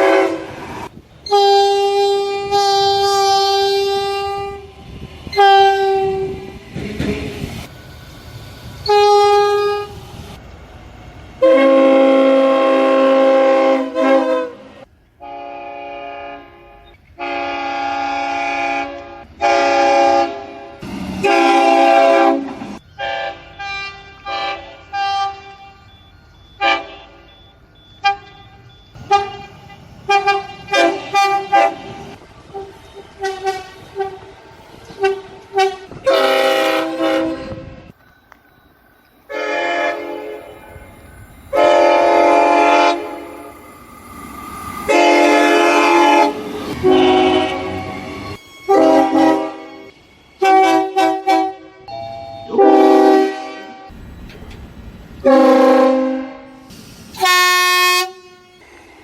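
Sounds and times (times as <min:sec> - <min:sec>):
train horns blowing: 0:00.0 - 0:07.7, 0:08.8 - 0:10.2, 0:11.4 - 0:25.9, 0:26.6 - 0:27.3, 0:28.0 - 0:38.0, 0:39.3 - 0:54.0, 0:55.2 - 0:59.0.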